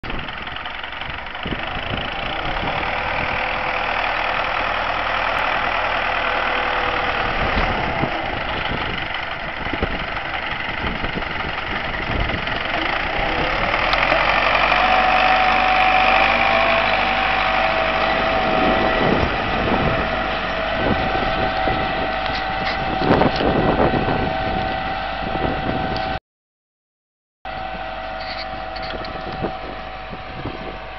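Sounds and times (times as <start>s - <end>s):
tractor diesel engine running: 0.0s - 26.2s, 27.5s - 30.9s.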